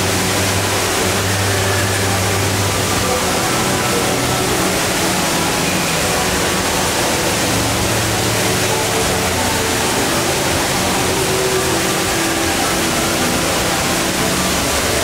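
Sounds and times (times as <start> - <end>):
indoor waterfall rushing: 0.0 - 15.0.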